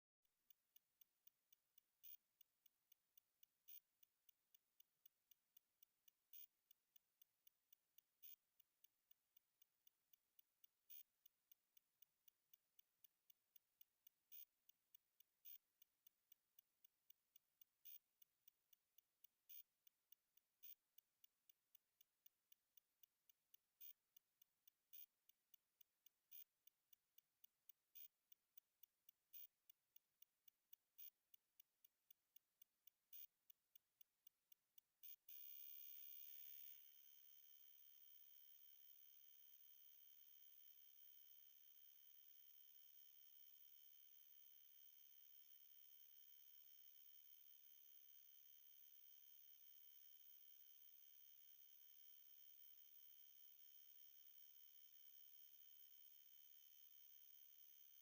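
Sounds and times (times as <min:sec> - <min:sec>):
faint high-pitched ticks: 0:00.2 - 0:58.0.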